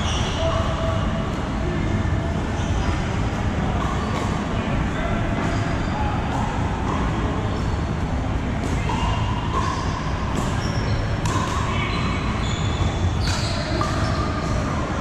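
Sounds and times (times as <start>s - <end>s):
background chatter: 0.0s - 15.0s.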